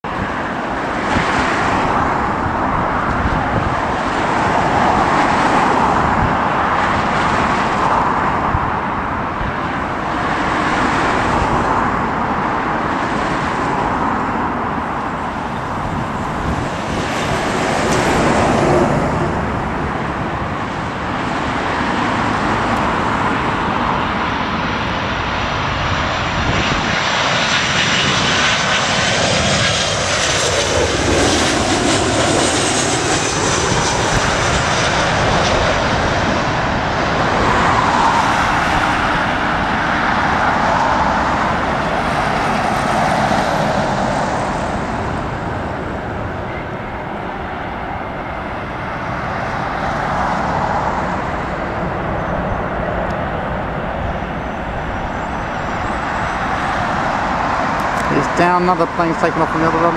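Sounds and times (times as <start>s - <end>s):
jet airliner passing: 0.0s - 59.9s
wind buffeting microphone: 0.0s - 59.9s.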